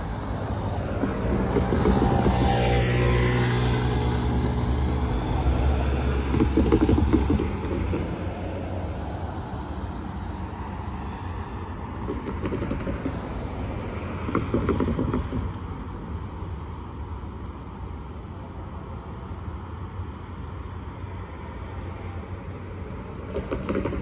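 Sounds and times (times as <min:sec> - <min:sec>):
train rumble: 0:00.0 - 0:19.8.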